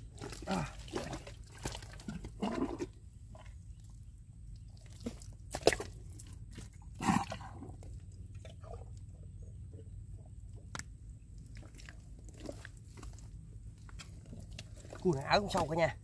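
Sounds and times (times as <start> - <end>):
loud mud slurp: 0.0 - 3.9, 4.6 - 9.1, 11.4 - 16.0
mud squelching and sucking: 0.0 - 3.9, 4.6 - 9.0, 11.4 - 15.8.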